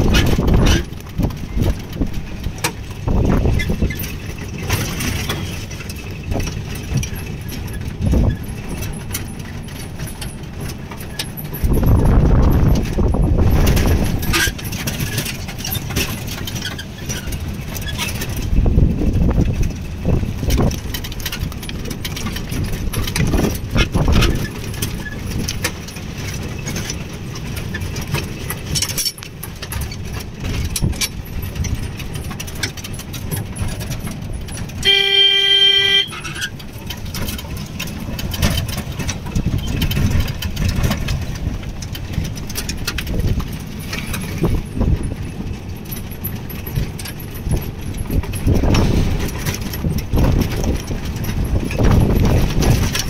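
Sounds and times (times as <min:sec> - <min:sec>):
loose body fittings rattling: 0:00.0 - 0:35.3, 0:36.0 - 0:53.0
jeep engine and tyres rumbling: 0:00.0 - 0:53.0.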